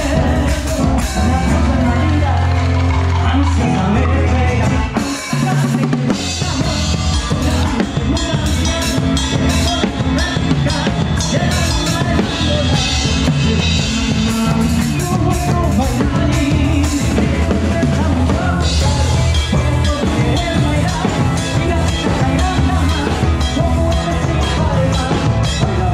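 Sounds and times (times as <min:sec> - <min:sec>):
drum kit: 0:00.0 - 0:25.9
electric guitar: 0:00.0 - 0:25.9
live band music: 0:00.0 - 0:25.9.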